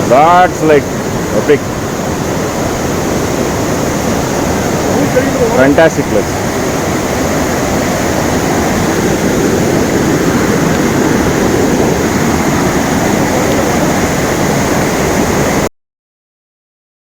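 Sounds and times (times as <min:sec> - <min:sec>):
waterfall rushing: 0:00.0 - 0:15.7.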